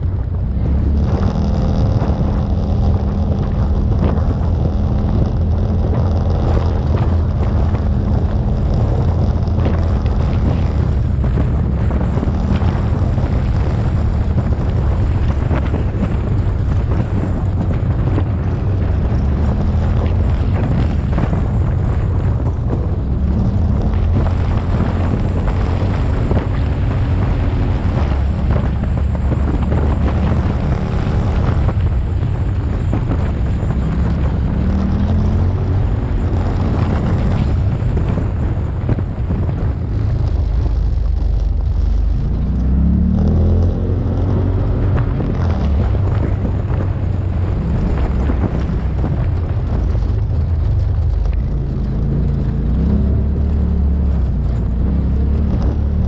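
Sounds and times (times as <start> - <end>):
off-road vehicle engine drone: 0.0 - 56.0
tyres rolling over dirt: 0.0 - 56.0.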